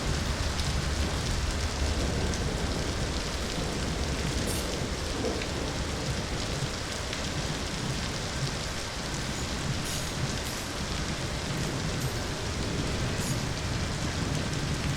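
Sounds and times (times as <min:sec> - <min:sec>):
heavy rain falling: 0:00.0 - 0:14.9
low rumble: 0:00.0 - 0:14.9.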